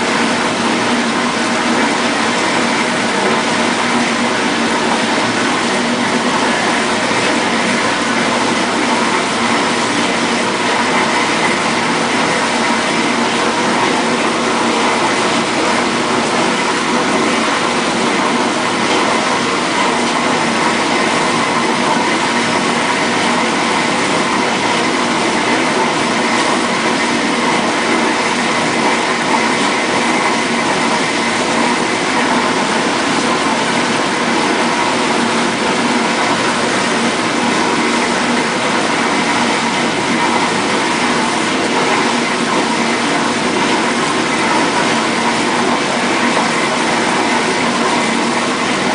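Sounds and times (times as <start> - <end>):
dishwasher motor hum: 0.0 - 48.9
water spraying and splashing: 0.0 - 48.9.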